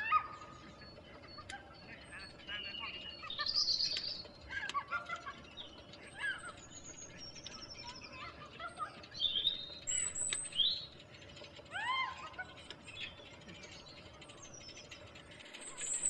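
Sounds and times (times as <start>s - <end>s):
birds singing and calling: 0.0s - 16.0s.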